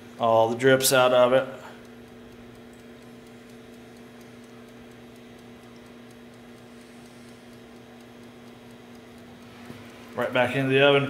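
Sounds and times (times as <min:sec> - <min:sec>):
low electrical hum: 0:00.0 - 0:11.0
rapid ticking: 0:00.5 - 0:11.0.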